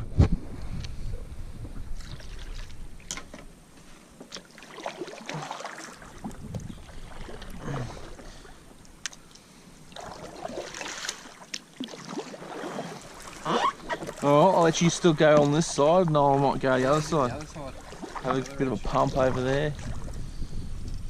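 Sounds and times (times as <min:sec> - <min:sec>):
water splashing and lapping: 0:01.7 - 0:20.4.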